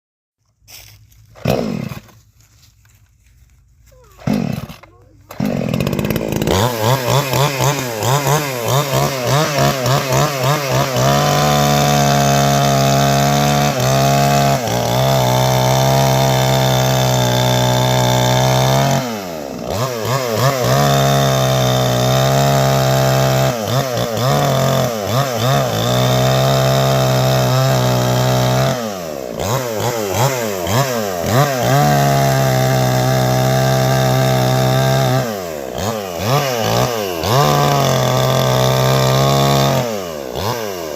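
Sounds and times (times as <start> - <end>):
chainsaw engine revving: 1.3 - 2.2, 4.0 - 40.9.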